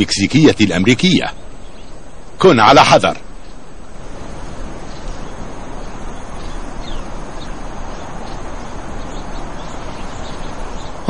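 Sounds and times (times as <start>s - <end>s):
faint bird chirps: 0.0s - 11.0s
outdoor background hiss: 0.0s - 11.0s.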